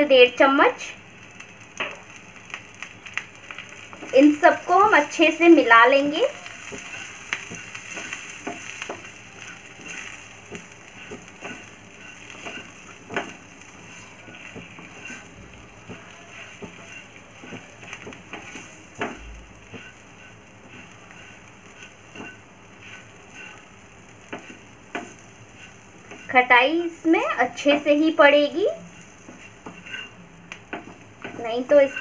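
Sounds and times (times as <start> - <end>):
chillies sizzling in oil: 0.0 - 32.0
wooden spatula scraping pan: 4.0 - 32.0.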